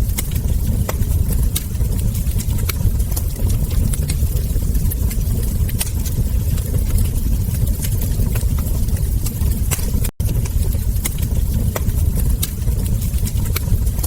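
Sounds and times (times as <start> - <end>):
low rumble of burning logs: 0.0 - 14.0
wood fire crackling: 0.0 - 14.0.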